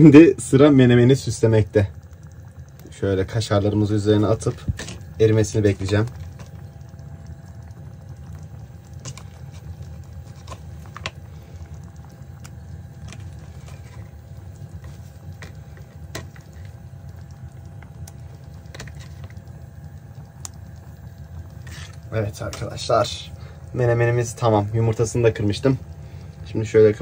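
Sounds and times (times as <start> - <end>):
pan simmering with small pops: 0.0 - 27.0.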